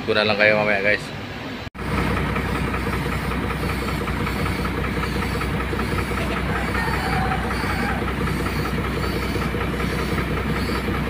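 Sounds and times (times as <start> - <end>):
air compressor chugging: 1.8 - 11.0.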